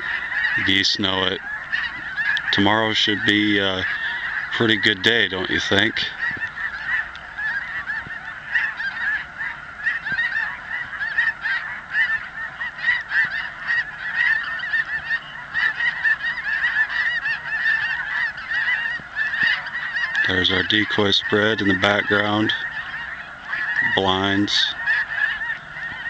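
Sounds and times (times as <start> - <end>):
flock of geese honking: 0.0 - 26.0.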